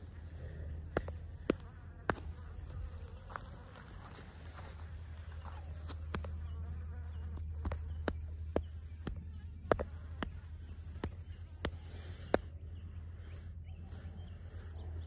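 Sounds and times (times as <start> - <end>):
bee buzzing: 0.0 - 13.3.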